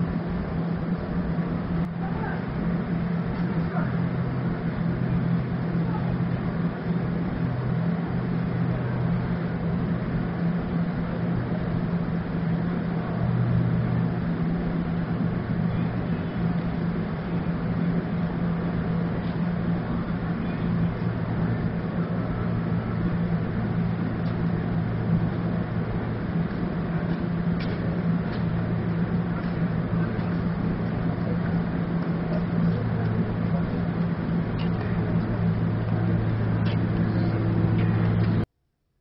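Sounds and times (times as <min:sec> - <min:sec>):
vehicle mechanical hum: 0:00.0 - 0:38.5.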